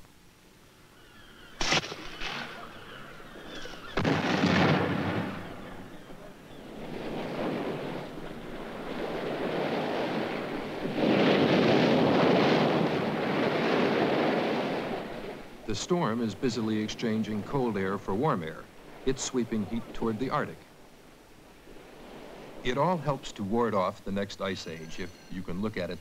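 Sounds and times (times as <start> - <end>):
waves crashing: 1.6 - 26.0.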